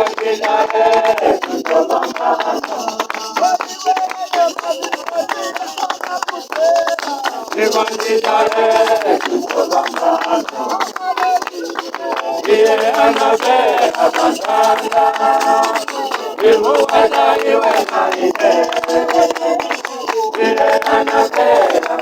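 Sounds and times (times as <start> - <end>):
congregation singing: 0.0 - 22.0
hand claps: 0.0 - 22.0.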